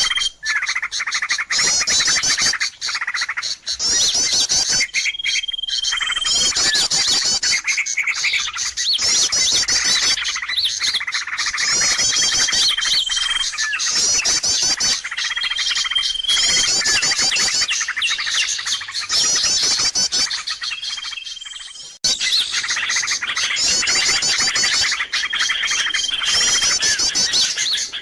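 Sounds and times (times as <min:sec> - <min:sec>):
background bird twittering: 0:00.0 - 0:28.0
rapid chirping trills: 0:00.0 - 0:28.0.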